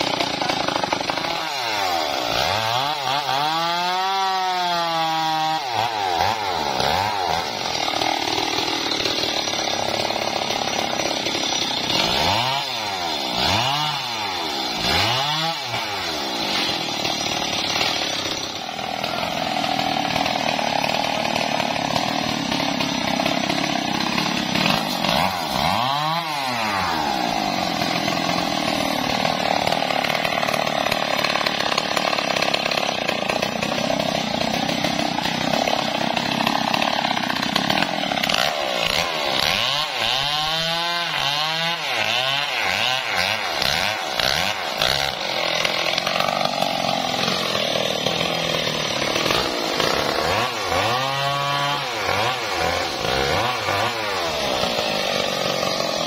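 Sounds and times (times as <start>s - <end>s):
chainsaw cutting: 0.0s - 56.0s.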